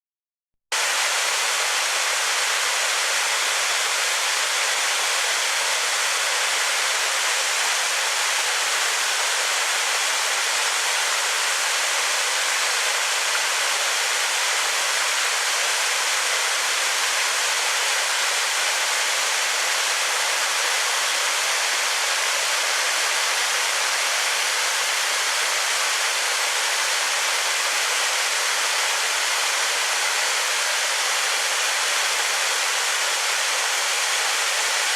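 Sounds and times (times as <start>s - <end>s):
waterfall rushing: 0.8s - 34.9s.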